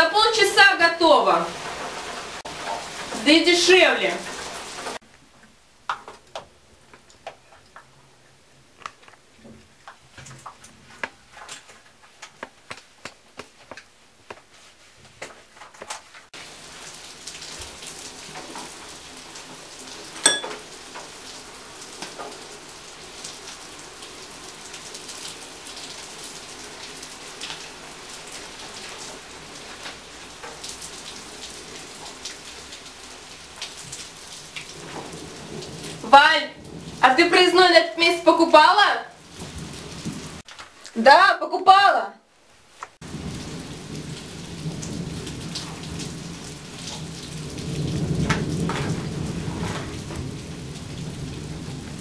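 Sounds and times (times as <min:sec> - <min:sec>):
steady rain: 0:00.0 - 0:52.0.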